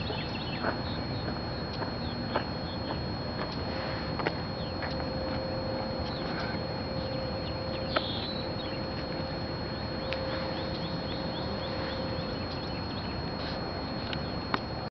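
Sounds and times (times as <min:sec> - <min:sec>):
birds chirping: 0:00.0 - 0:14.8
thin high whine: 0:00.0 - 0:14.9
steady hiss: 0:02.2 - 0:14.9.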